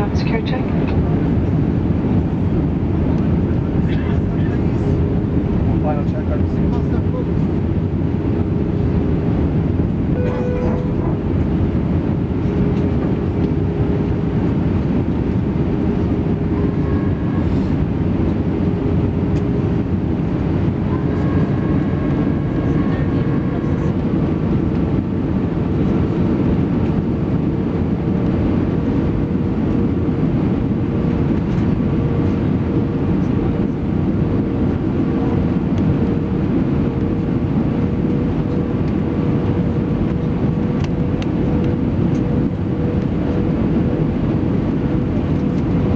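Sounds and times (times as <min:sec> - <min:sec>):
engine whine: 0:00.0 - 0:45.9
jet engine cabin rumble: 0:00.0 - 0:45.9.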